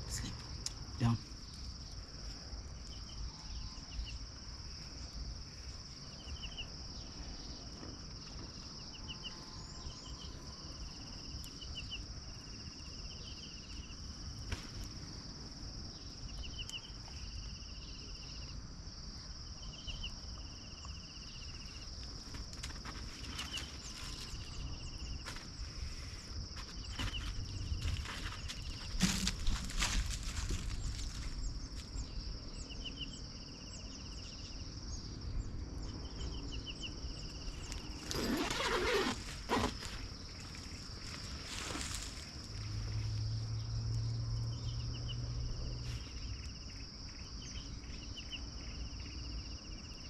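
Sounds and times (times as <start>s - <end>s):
insect chirping trills: 0.0s - 50.0s
insects droning: 0.0s - 50.0s.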